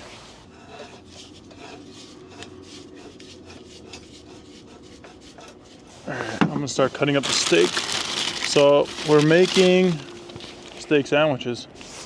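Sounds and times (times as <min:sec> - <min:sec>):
gear rubbing and scraping: 0:00.0 - 0:11.0
steady low hum: 0:00.0 - 0:11.9.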